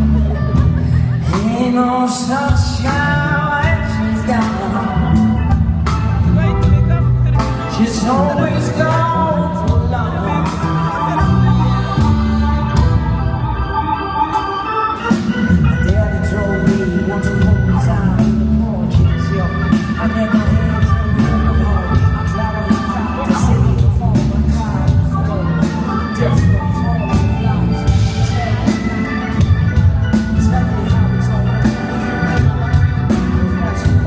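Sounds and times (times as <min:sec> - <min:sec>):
bass guitar: 0:00.0 - 0:34.0
drums: 0:00.0 - 0:34.0
organ-like keyboard chords: 0:00.0 - 0:34.0.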